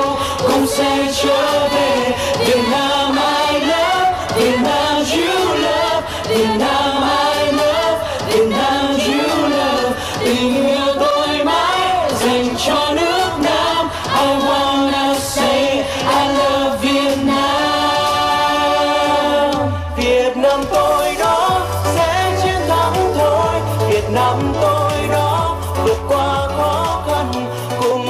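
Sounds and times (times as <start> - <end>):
musical accompaniment: 0.0 - 28.0
voices singing together: 0.0 - 28.0.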